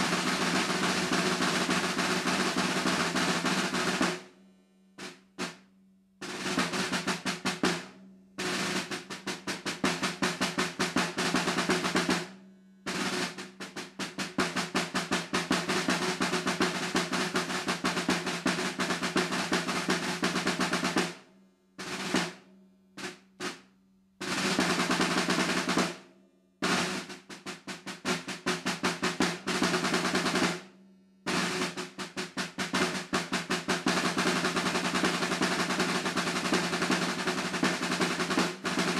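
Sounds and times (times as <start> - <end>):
snare drum rolls and strokes: 0.0 - 4.4, 5.0 - 38.9.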